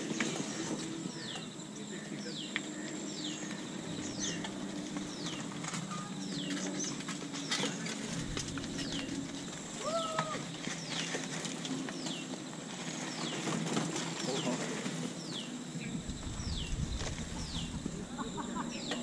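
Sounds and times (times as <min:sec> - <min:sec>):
bicycle tyres on dirt track: 0:00.0 - 0:19.0.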